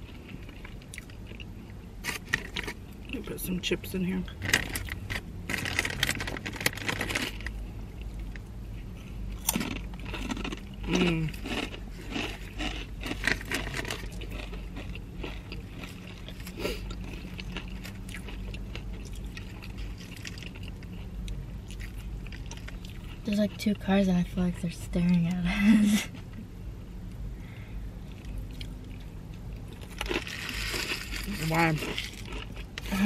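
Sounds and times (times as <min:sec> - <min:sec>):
crunchy chewing of a sandwich: 0:00.0 - 0:03.2, 0:04.4 - 0:23.3, 0:28.0 - 0:33.0
low steady hum: 0:00.0 - 0:33.0.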